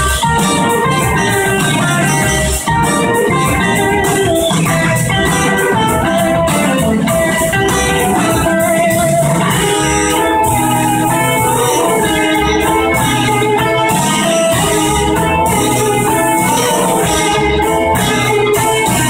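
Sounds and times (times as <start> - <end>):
drum kit: 0.0 - 19.0
electric guitars: 0.0 - 19.0
horn section: 0.0 - 19.0.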